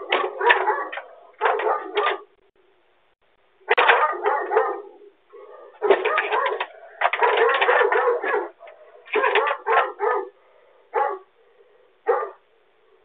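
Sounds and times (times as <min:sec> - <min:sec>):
dog barking: 0:00.0 - 0:02.3, 0:03.7 - 0:11.4, 0:12.0 - 0:12.5.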